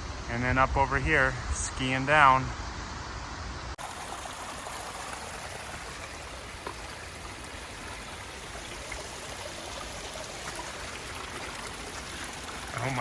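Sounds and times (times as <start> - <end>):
rushing mountain water: 1.2 - 13.0.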